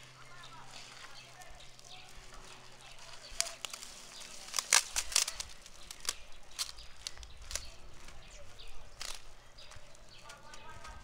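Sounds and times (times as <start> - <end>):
dry leaves crackling and rustling: 0.0 - 11.0.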